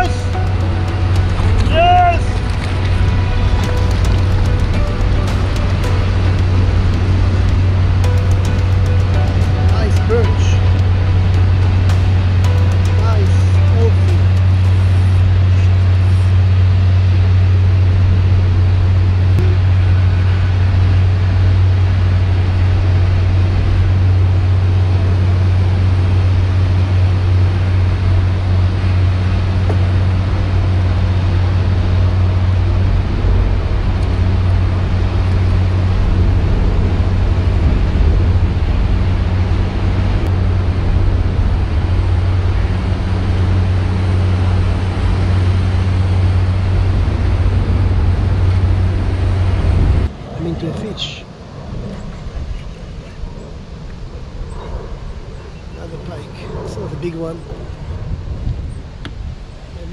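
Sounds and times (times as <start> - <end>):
faint higher hum: 0.0 - 50.6
loud low hum: 0.0 - 59.9.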